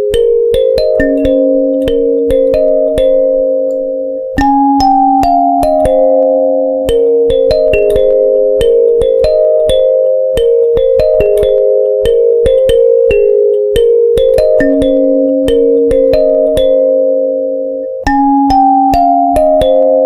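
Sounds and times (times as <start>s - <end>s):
background music melody: 0.0s - 20.0s.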